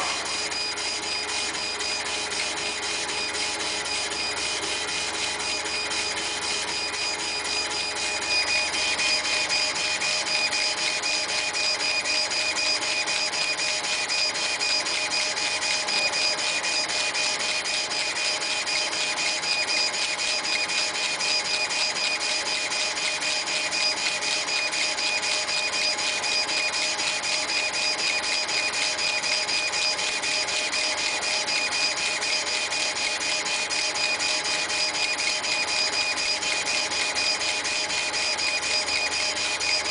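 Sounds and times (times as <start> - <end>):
fast mechanical chatter: 0.0 - 39.9
laser engraving machine whine: 0.0 - 39.9.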